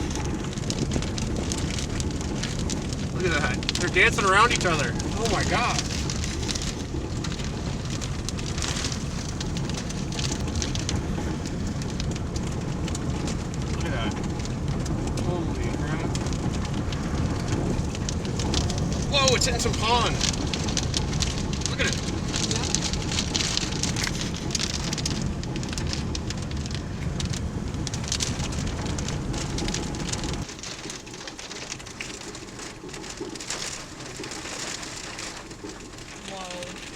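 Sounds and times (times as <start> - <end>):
rain ticking: 0.0 - 36.9
storm wind rumbling on microphone: 0.0 - 36.9.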